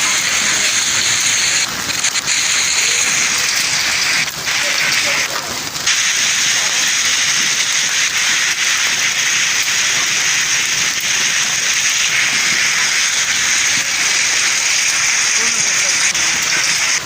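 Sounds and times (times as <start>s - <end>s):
rain and hail pelting down: 0.0s - 17.0s.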